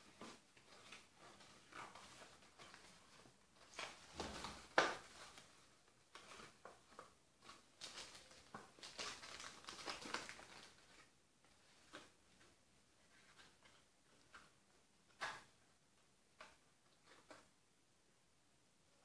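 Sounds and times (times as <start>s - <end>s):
cardboard and plastic rustling: 0.0s - 15.6s.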